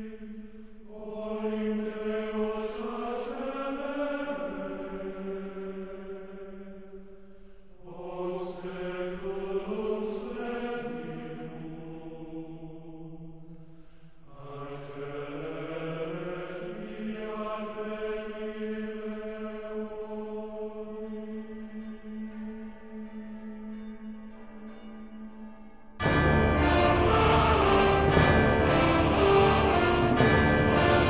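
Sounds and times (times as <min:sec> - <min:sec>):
choral chant: 0:00.0 - 0:31.0.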